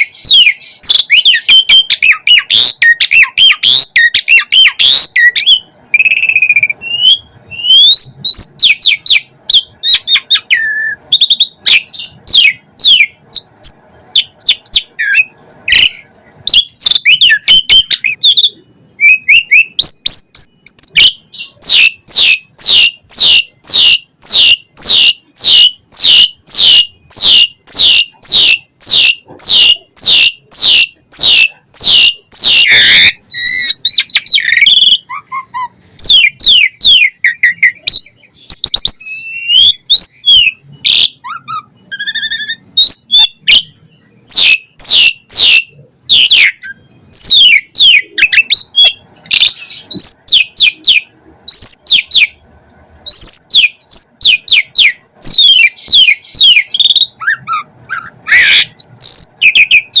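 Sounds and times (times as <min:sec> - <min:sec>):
starling whistling and chattering: 0:00.0 - 0:52.4, 0:53.1 - 1:00.0.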